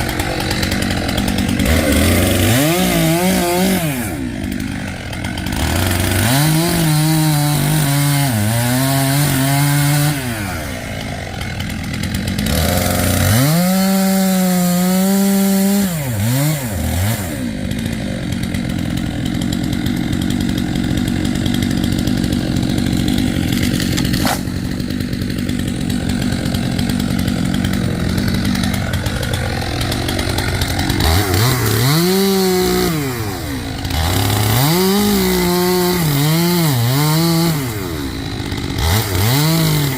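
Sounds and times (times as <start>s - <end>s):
chainsaw cutting through wood: 0.0s - 39.9s
chainsaw revving: 0.0s - 39.9s.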